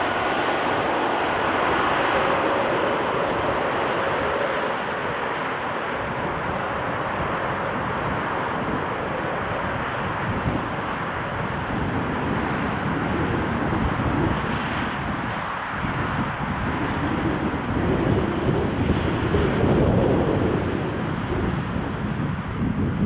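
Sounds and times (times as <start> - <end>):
gusty wind buffeting microphone: 0.0 - 23.0
jet airliner engines: 0.0 - 23.0.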